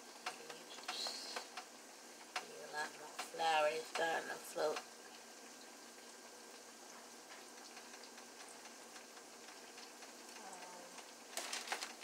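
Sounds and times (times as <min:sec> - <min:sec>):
oil sizzling with crackles: 0:00.0 - 0:12.0.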